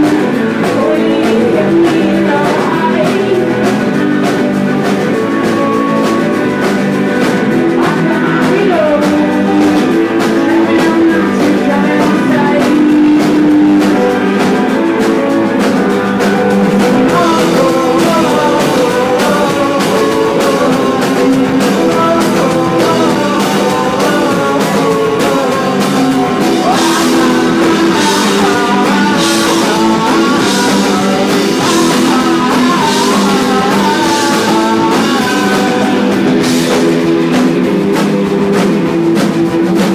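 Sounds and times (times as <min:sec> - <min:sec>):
drums and cymbals: 0:00.0 - 0:39.9
electric guitar: 0:00.0 - 0:39.9
person singing: 0:00.0 - 0:39.9.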